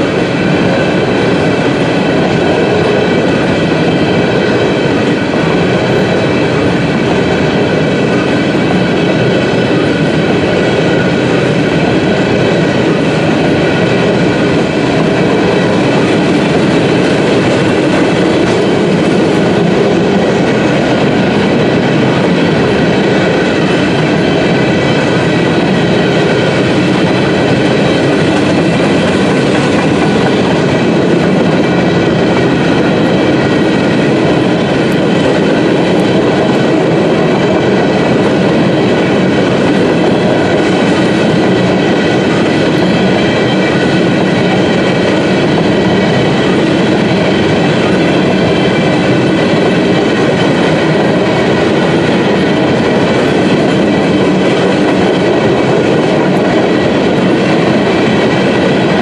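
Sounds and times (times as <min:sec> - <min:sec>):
freight train cars rumbling and rattling: 0:00.0 - 0:59.0.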